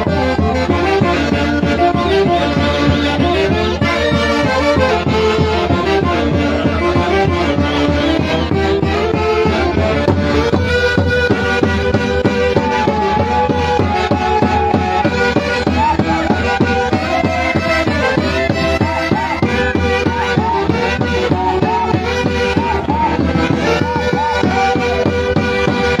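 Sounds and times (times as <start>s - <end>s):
folk ensemble playing lively melody: 0.0s - 26.0s
steady driving beat: 0.0s - 26.0s.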